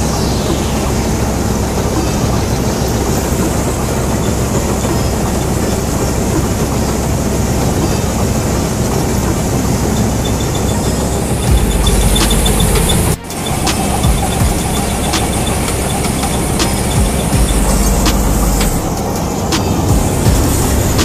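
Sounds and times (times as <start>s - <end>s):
combine harvester engine running: 0.0s - 21.0s
cutting machinery: 0.0s - 21.0s.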